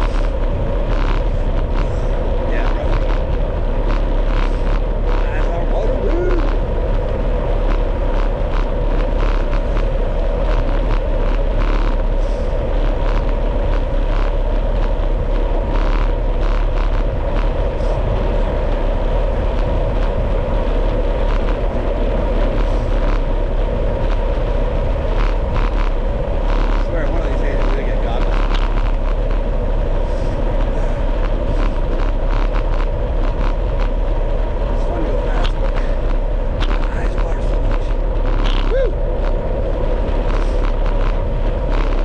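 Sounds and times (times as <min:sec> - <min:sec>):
wind noise on microphone: 0:00.0 - 0:42.0.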